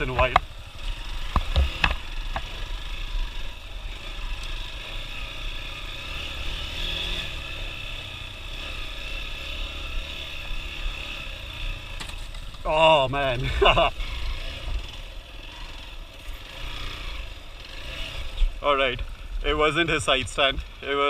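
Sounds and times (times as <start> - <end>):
motorcycle engine running at low revs: 0.0 - 21.0.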